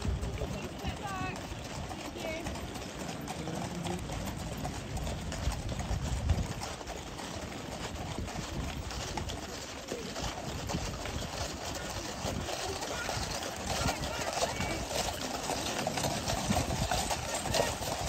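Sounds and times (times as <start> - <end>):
horse hooves clopping on gravel: 0.0 - 18.0.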